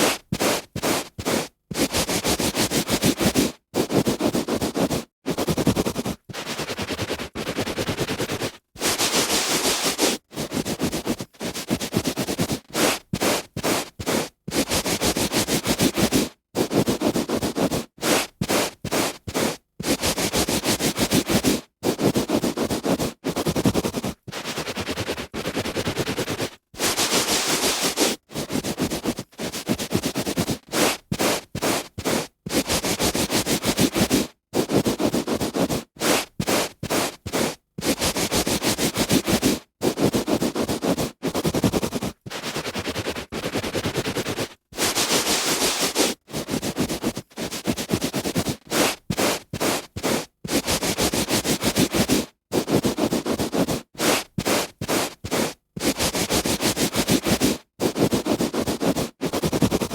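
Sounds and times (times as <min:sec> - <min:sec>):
hand rubbing on carpet: 0:00.0 - 0:59.9.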